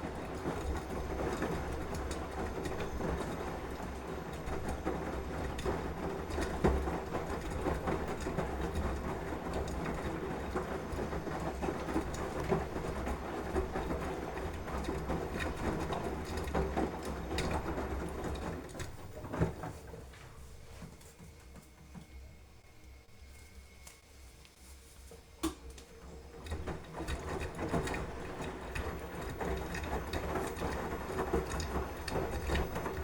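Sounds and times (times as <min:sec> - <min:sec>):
washing machine drum rumbling: 0:00.0 - 0:22.6, 0:25.4 - 0:33.0.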